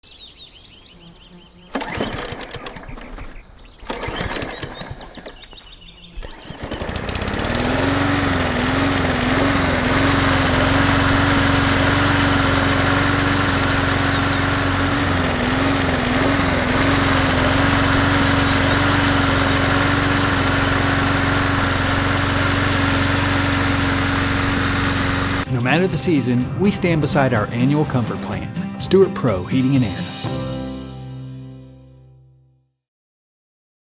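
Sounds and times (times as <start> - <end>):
small engine running: 1.7 - 29.0.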